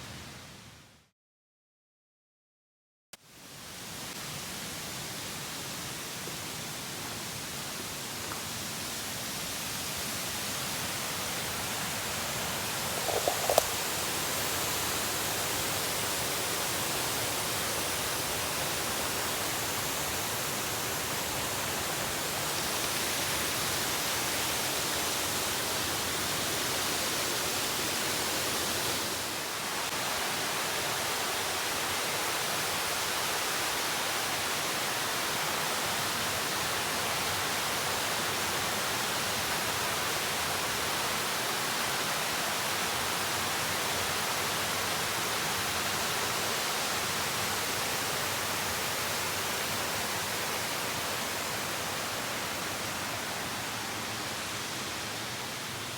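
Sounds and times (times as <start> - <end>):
stream and waterfall rushing: 3.4 - 55.9.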